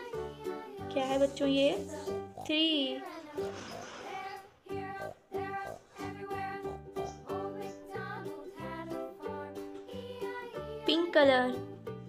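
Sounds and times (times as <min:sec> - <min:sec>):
light background music with bass: 0:00.0 - 0:03.3, 0:04.7 - 0:12.0.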